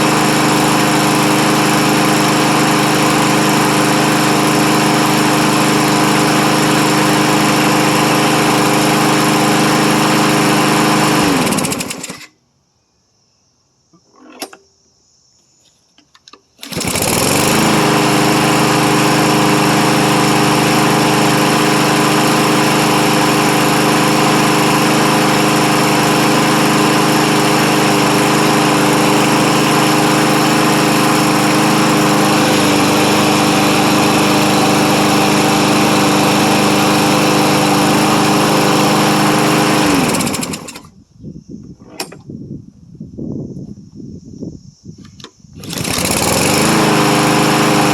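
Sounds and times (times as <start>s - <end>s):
lawn mower engine: 0.0s - 12.4s, 14.0s - 14.6s, 16.6s - 40.9s, 45.6s - 47.9s.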